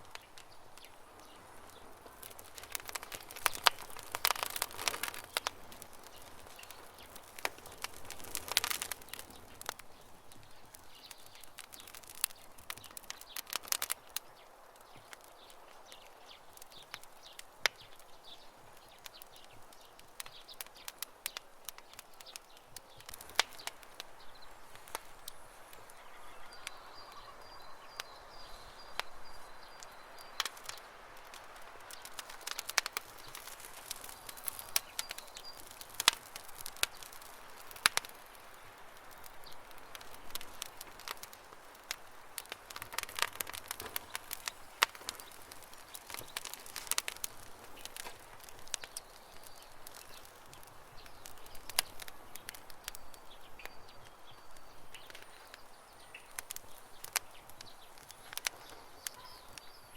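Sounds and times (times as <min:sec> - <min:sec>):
birds chirping: 0:00.0 - 0:59.9
campfire crackling and popping: 0:00.0 - 0:59.9
faint hiss: 0:00.0 - 0:59.9.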